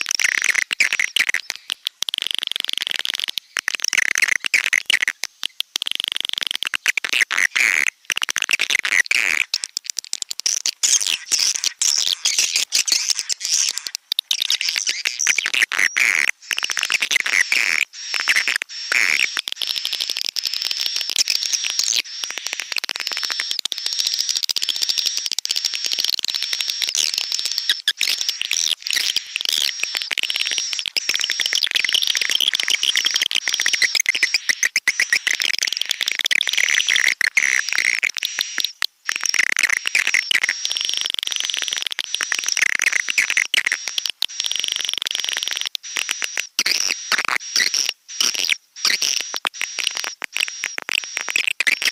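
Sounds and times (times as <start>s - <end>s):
swiftlets twittering: 8.2s - 51.9s.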